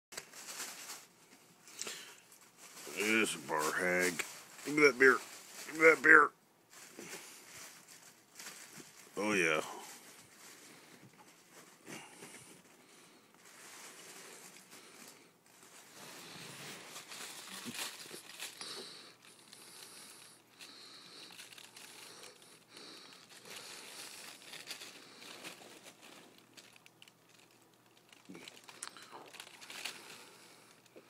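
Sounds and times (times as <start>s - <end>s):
ferrets rustling in crinkly foil: 0.1s - 31.0s.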